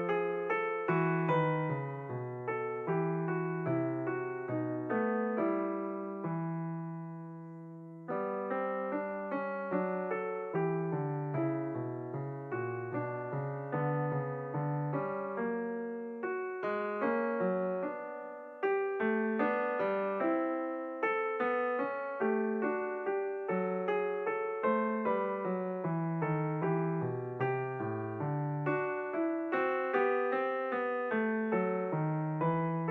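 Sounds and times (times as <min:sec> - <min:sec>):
slow solo piano melody: 0:00.0 - 0:32.9.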